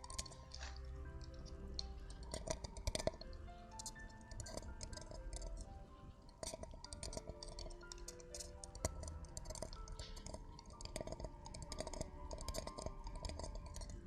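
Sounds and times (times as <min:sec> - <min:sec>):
crackling clicks and scratches: 0:00.0 - 0:14.0
soft background music: 0:00.0 - 0:14.0.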